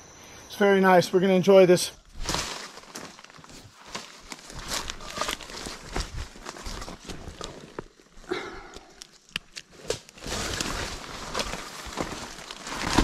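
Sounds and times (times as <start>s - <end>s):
rustling of leaves and undergrowth: 2.0s - 13.0s.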